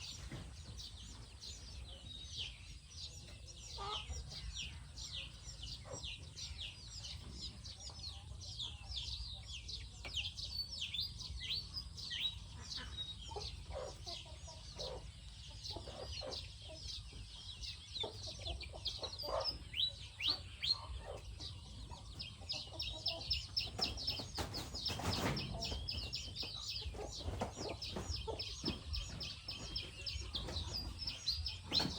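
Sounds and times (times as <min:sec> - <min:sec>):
chickens clucking: 0:00.0 - 0:31.9
chickens peeping: 0:00.0 - 0:31.9.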